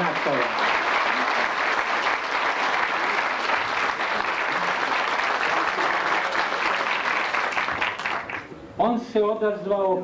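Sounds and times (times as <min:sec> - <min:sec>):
large audience applauding: 0:00.0 - 0:08.5.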